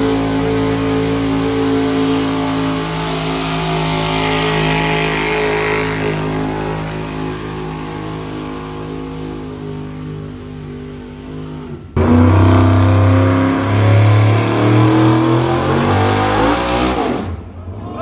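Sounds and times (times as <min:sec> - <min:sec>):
pulling vehicle engine running loud: 0:00.0 - 0:17.3.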